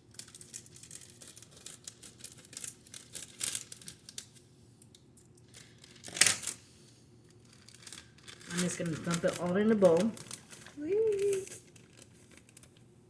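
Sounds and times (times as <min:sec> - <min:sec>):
packaging crinkling and tearing: 0:00.0 - 0:04.5, 0:05.4 - 0:06.6, 0:07.3 - 0:12.9.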